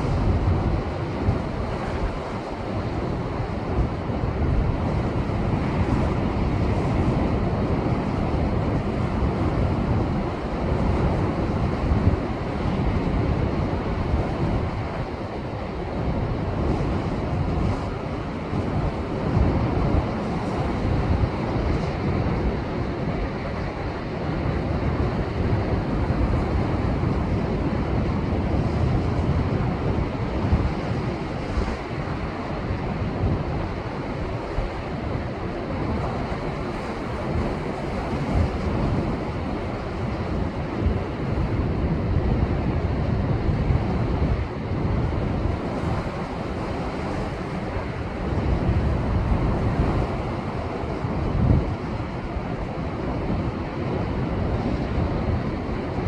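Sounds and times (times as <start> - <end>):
heavy surf on rocks: 0.0 - 56.0
wind rumbling on microphone: 0.0 - 56.0.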